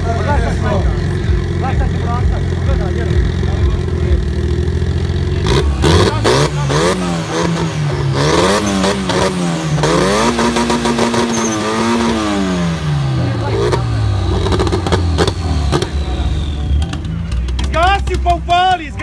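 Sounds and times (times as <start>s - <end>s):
car engine revving: 0.0s - 18.7s
engine crackles: 0.0s - 19.0s.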